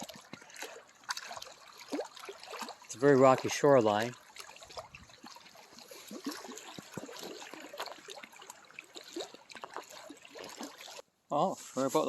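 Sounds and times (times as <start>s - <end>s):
small water splashes and gurgles: 0.0s - 11.0s
water lapping against rocks: 0.0s - 11.0s.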